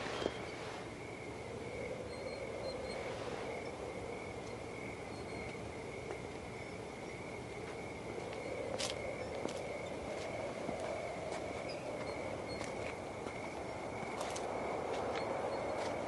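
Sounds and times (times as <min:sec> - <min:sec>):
cricket-like trill: 0:00.0 - 0:16.0
low wavering hum: 0:00.0 - 0:16.0.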